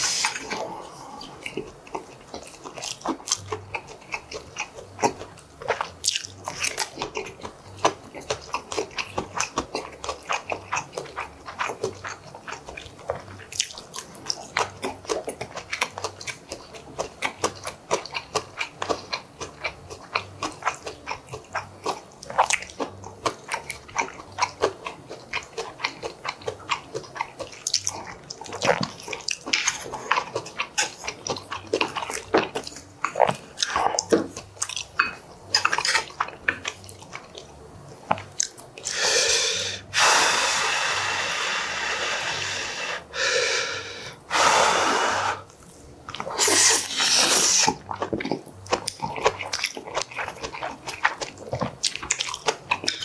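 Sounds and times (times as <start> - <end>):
wet chewing and smacking: 0.0 - 40.1, 45.1 - 53.0.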